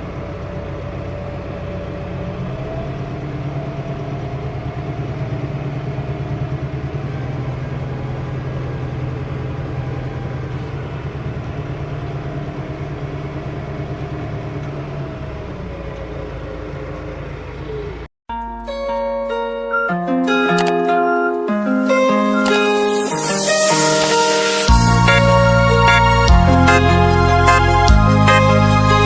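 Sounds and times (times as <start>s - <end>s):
engine running: 0.0s - 18.1s, 20.5s - 29.0s.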